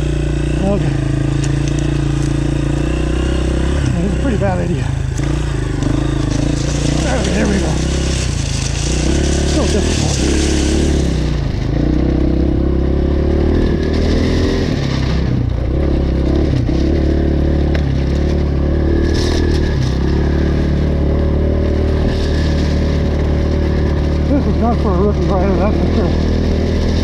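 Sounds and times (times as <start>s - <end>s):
dirt bike engine: 0.0s - 27.0s.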